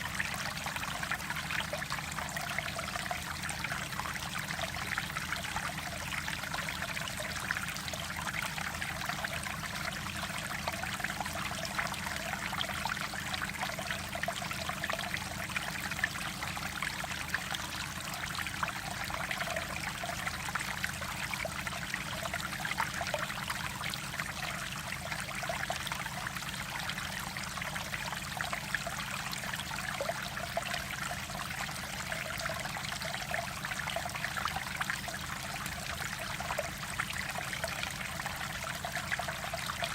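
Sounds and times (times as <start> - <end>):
stream water trickling over rocks: 0.0 - 39.9.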